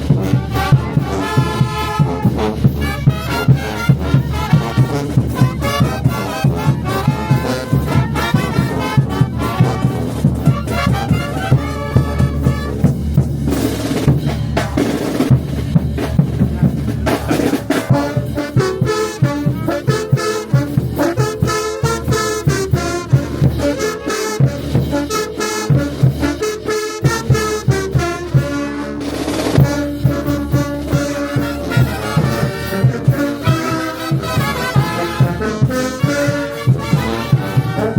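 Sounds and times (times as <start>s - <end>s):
brass band playing: 0.0s - 37.9s
steady drum beat: 0.0s - 37.9s.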